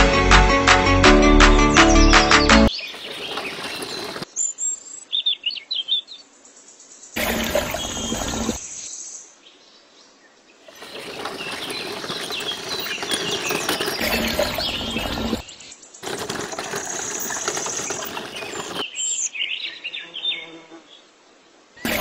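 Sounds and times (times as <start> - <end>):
small birds chirping: 1.7 - 20.3.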